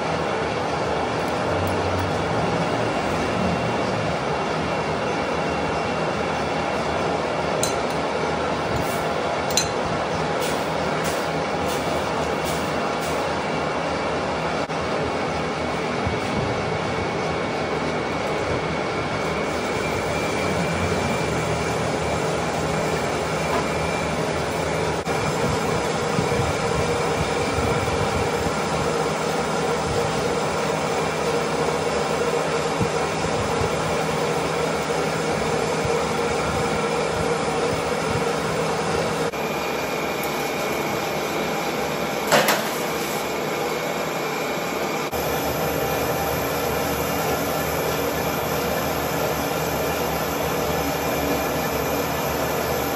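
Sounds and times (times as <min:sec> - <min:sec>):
metal lathe drone with whine: 0:00.0 - 0:52.9.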